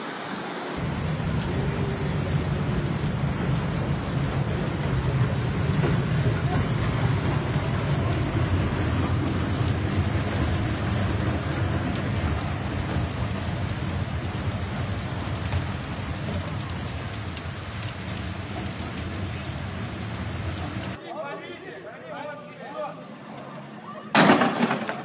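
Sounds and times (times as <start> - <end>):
heavy rain on a street: 0.0 - 21.0.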